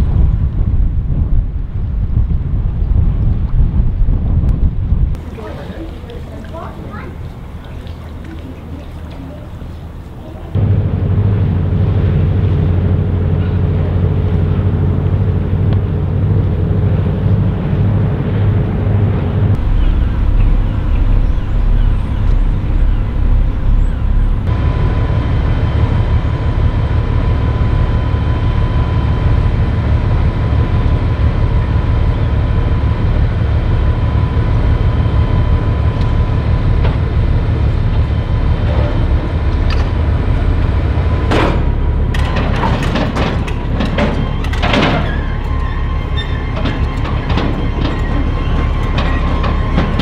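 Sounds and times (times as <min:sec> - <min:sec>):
diesel engines rumbling: 0:00.0 - 0:50.0
faint steady whine: 0:05.1 - 0:50.0.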